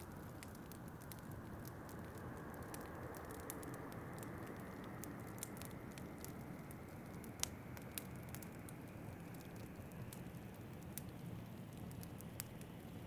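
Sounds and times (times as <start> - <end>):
fire popping: 0.0 - 13.0
wood fire crackling: 0.0 - 13.0.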